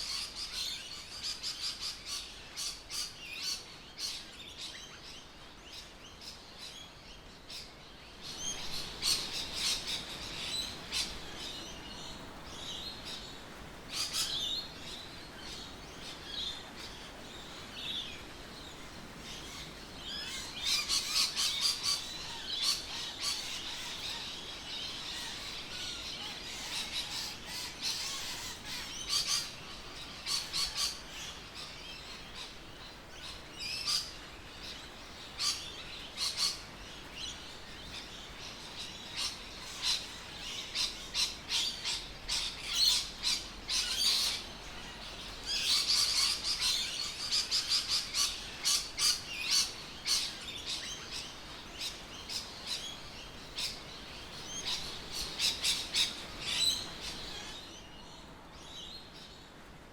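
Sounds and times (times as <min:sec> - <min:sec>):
birds chirping: 0:00.0 - 0:59.4.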